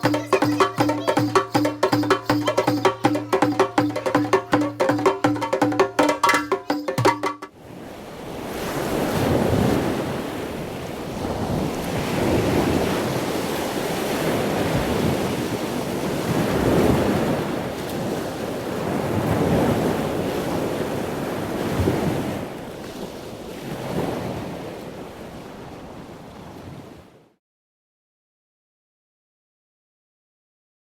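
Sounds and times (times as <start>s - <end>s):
sea rushing: 0.0s - 27.2s.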